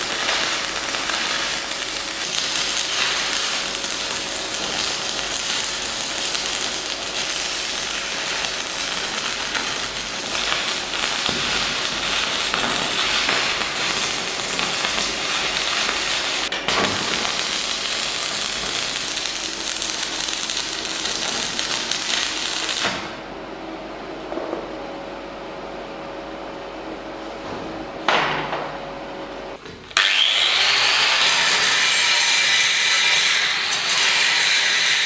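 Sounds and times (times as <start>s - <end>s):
welding arc crackling: 0.0s - 23.3s, 28.0s - 35.0s.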